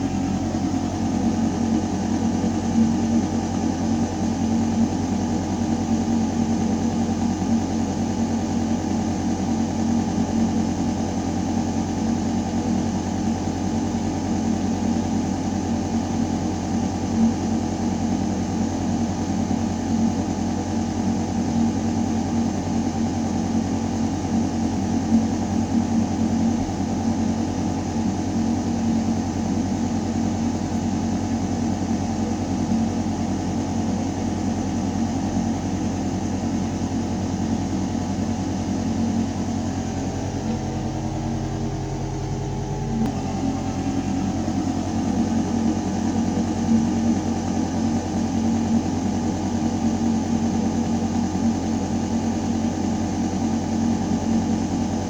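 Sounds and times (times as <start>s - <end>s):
ventilation system humming: 0.0s - 55.0s.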